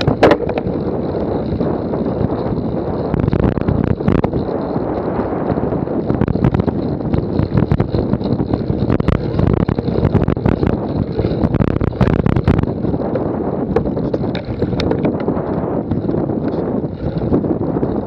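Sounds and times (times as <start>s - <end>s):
bicycle clicks and rattles: 0.0s - 18.0s
wind rushing over microphone: 0.0s - 18.0s.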